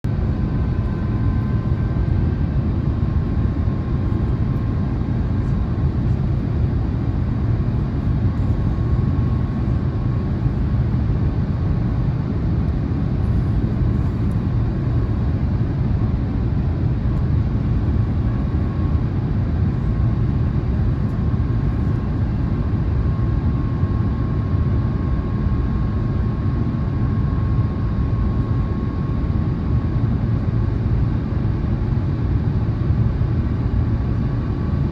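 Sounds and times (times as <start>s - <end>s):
airflow rush in aircraft cabin: 0.1s - 34.9s
faint steady whine: 0.1s - 34.9s
jet engines: 0.1s - 34.9s.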